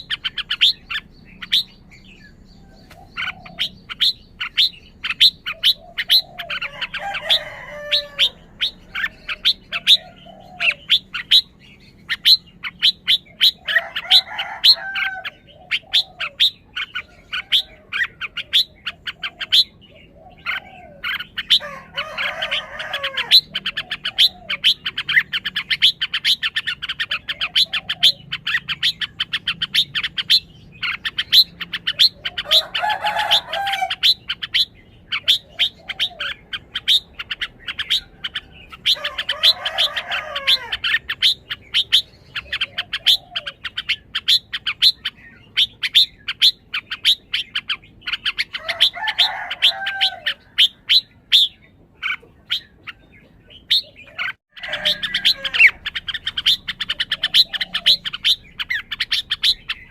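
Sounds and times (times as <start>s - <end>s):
bird singing warbled phrases: 0.0s - 59.9s
small bird chirps: 0.0s - 59.9s.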